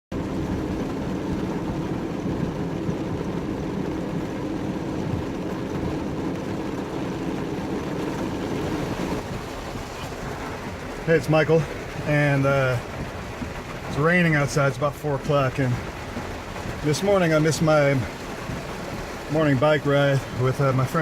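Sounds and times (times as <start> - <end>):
heavy rain: 0.1 - 21.0
wind: 0.1 - 21.0.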